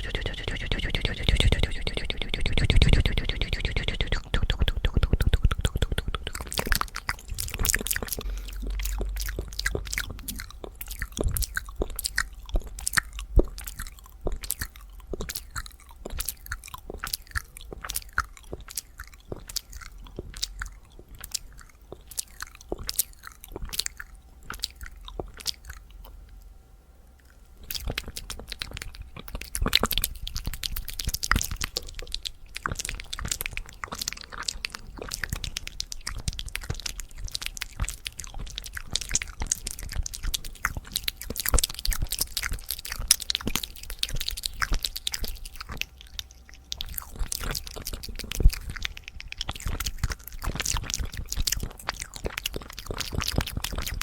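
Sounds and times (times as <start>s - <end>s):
wet mouth clicks and lip smacks: 0.0s - 26.2s, 27.2s - 54.0s.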